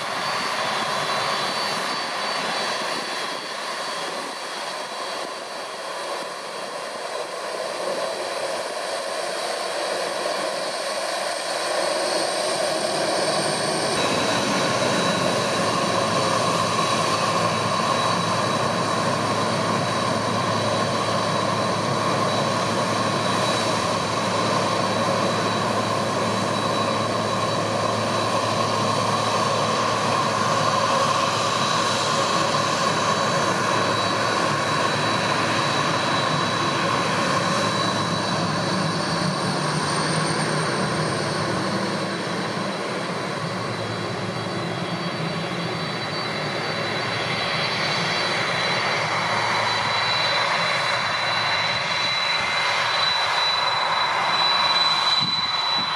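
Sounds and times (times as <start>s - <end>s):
jet engine whine: 0.0s - 55.9s.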